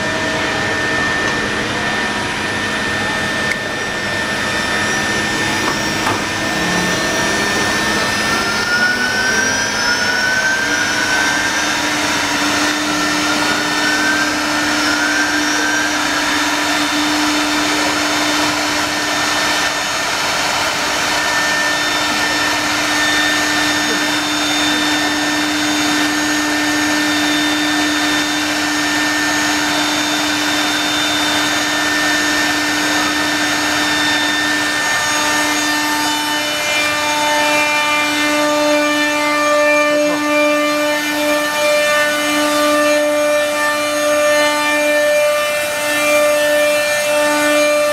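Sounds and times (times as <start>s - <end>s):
wood router spindles whining: 0.0s - 47.9s.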